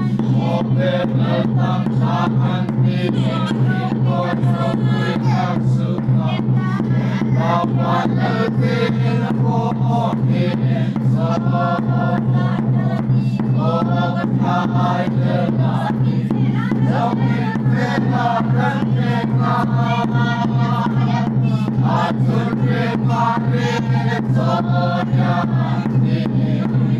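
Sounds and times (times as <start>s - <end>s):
congregation singing a hymn: 0.0s - 26.9s
steady beat: 0.0s - 26.9s.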